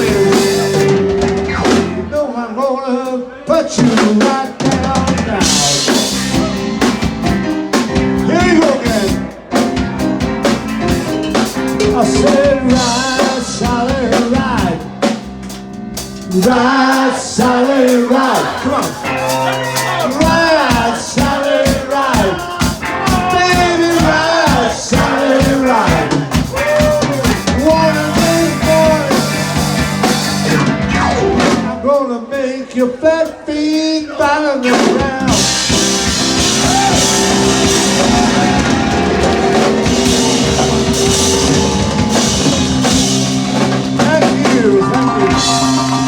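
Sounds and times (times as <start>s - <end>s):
drum hits: 0.0s - 2.2s, 3.8s - 16.6s, 17.4s - 31.8s, 34.7s - 46.0s
live band playing soul-rock: 0.0s - 2.2s, 4.0s - 31.8s, 34.6s - 46.0s.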